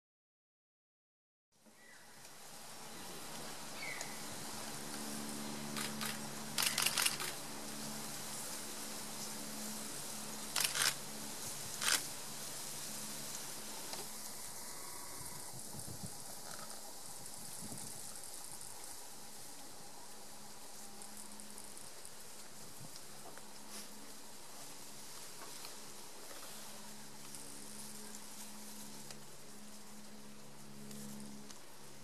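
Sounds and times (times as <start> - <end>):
outdoor background hiss: 1.6 - 32.0.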